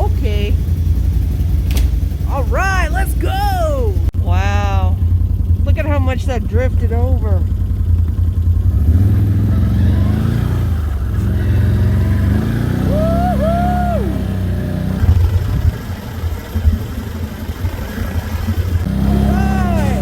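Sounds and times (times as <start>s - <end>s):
atv engine revving under load: 0.0s - 20.0s.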